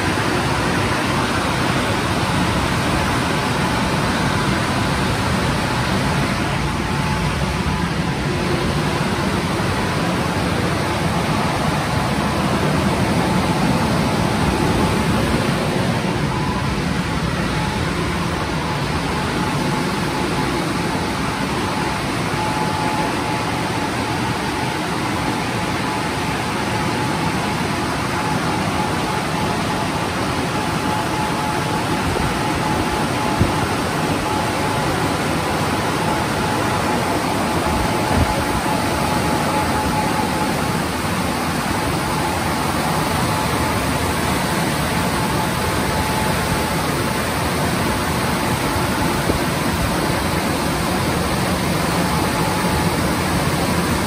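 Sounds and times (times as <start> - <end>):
car wash dryer blowers: 0.0 - 54.0.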